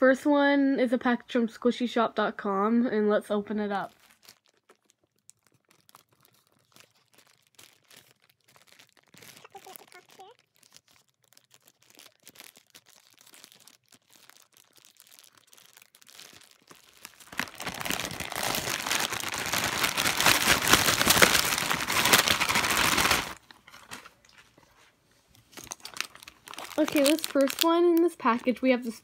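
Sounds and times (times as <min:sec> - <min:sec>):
plastic packaging crinkling: 0:03.7 - 0:29.0.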